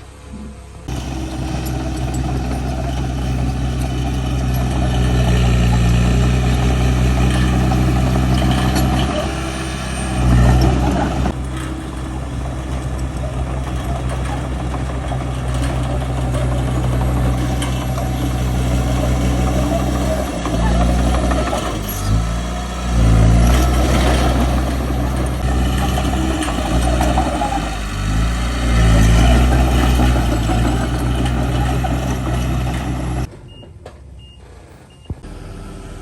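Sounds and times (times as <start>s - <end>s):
heavy diesel engine running: 0.0s - 33.3s, 35.2s - 36.0s.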